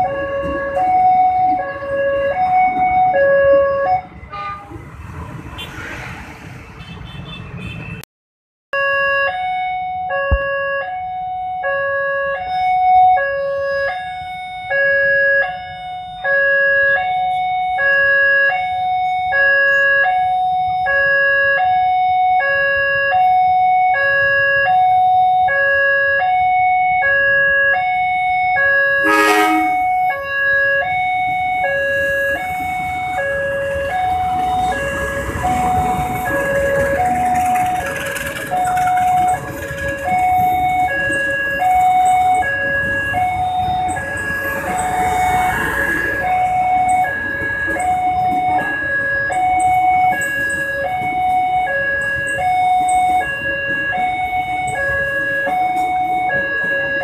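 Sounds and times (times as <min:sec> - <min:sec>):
level-crossing two-tone alarm: 0:00.0 - 0:04.4, 0:08.8 - 0:57.0
passing train: 0:00.0 - 0:08.0, 0:09.4 - 0:57.0.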